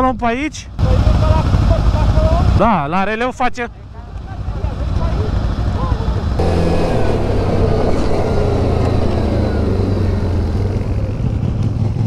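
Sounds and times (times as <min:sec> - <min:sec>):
atv engine running: 0:00.8 - 0:02.8, 0:03.8 - 0:12.0.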